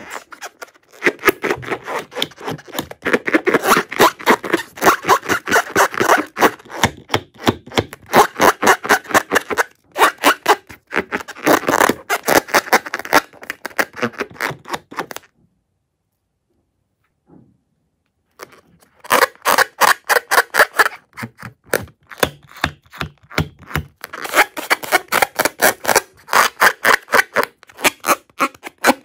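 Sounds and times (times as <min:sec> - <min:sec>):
balloon squeaks and crackles: 0:00.0 - 0:15.3, 0:18.3 - 0:29.0.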